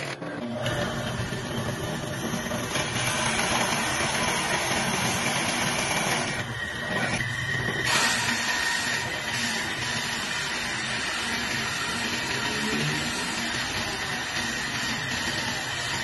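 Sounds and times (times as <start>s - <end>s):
power tool running: 0.0s - 16.0s.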